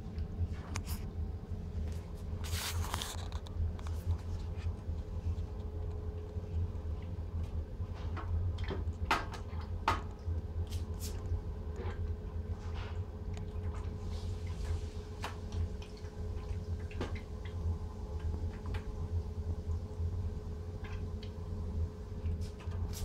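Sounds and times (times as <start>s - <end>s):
water pump humming: 0.0s - 23.0s.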